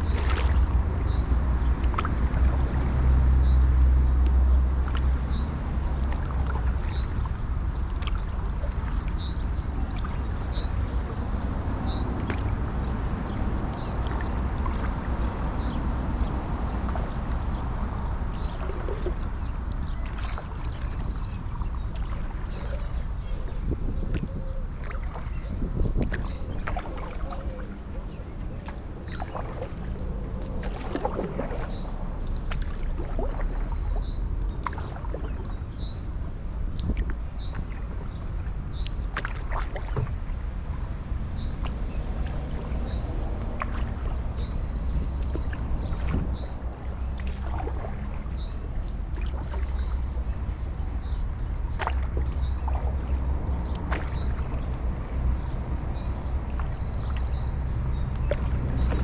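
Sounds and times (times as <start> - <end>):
paddle splashing in water: 0.0 - 59.0
steady low rumble: 0.0 - 59.0.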